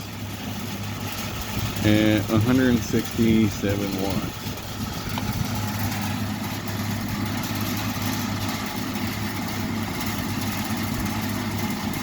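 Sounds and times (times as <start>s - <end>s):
box fan motor hum: 0.0s - 12.0s
rush of air from fan blades: 0.0s - 12.0s.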